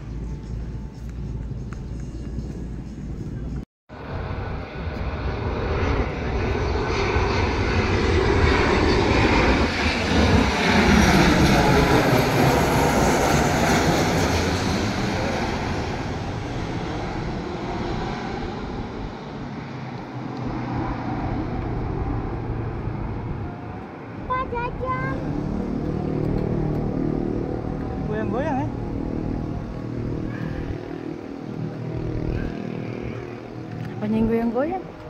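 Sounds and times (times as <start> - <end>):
jet airliner passing overhead: 0.0 - 35.0.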